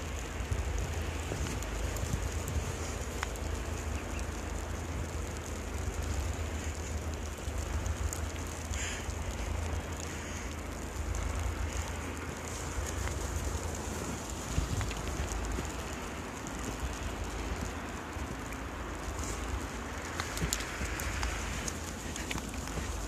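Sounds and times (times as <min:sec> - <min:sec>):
fine crackling hiss: 0:00.0 - 0:23.0
wind buffeting microphone: 0:00.0 - 0:23.0.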